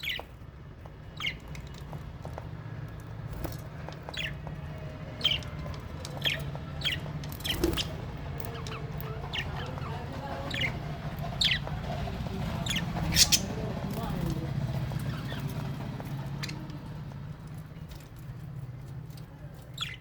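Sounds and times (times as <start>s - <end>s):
parrots chirping: 0.0s - 20.0s.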